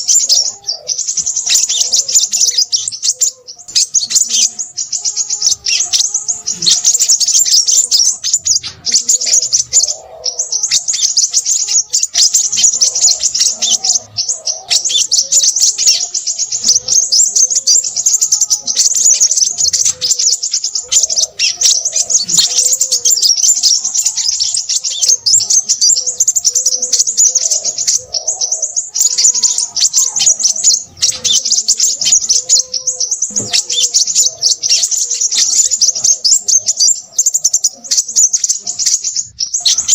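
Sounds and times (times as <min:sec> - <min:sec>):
bird chirps and trills: 0:00.0 - 0:39.9
low wavering bird call: 0:00.0 - 0:39.9.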